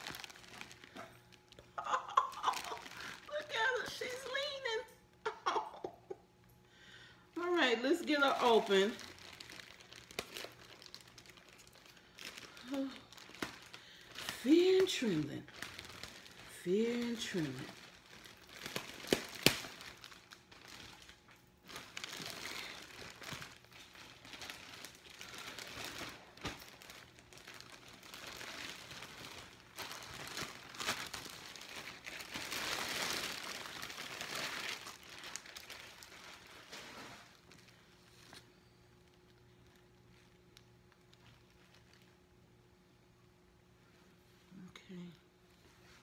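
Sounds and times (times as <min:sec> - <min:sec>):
plastic bag crinkling: 0:00.0 - 0:04.9, 0:07.4 - 0:42.3.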